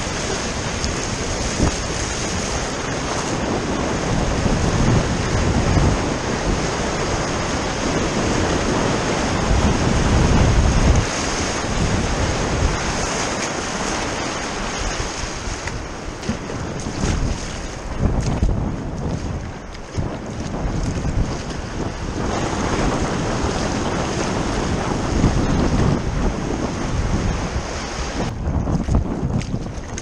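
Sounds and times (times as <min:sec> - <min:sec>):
surf rushing around kayak hull: 0:00.0 - 0:30.0
wind buffeting microphone: 0:00.0 - 0:30.0.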